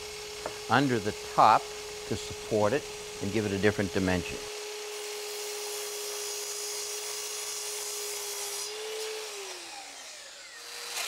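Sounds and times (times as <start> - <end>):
miter saw whining: 0.0 - 11.0.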